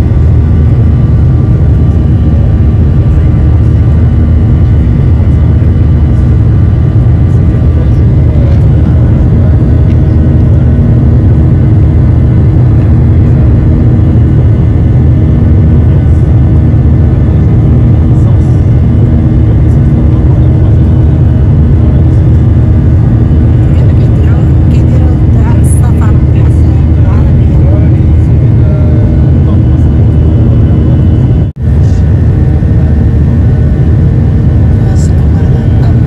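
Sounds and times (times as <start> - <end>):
faint hum tones: 0.0 - 36.0
jet engine cabin rumble: 0.0 - 36.0.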